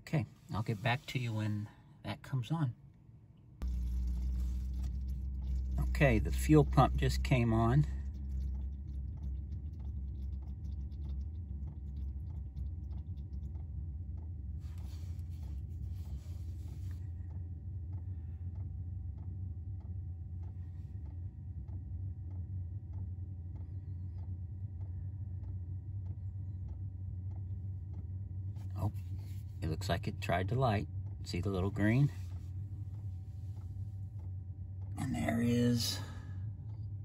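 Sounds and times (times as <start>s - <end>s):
fan humming: 0.0s - 37.0s
fuel pump ticking: 3.6s - 36.9s.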